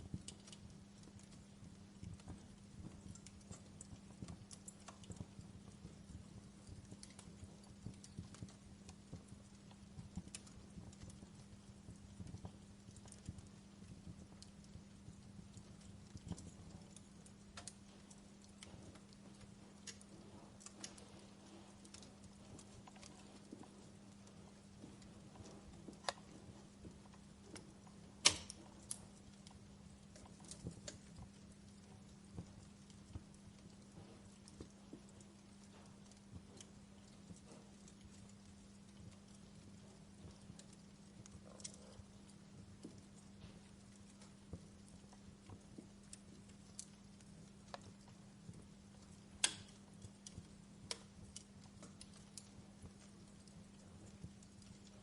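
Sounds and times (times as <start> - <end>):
steady low hum: 0.0 - 55.0
wood fire crackling: 0.0 - 55.0.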